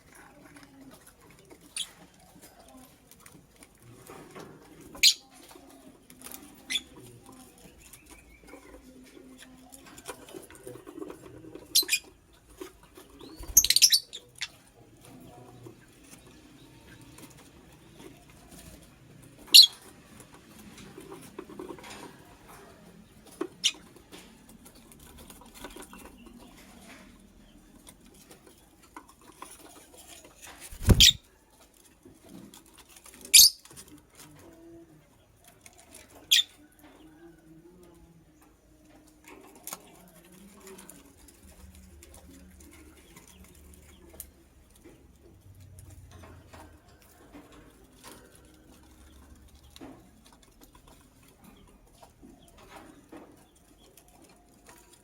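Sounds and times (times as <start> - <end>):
bird scratching and rustling in cage: 0.0 - 55.0.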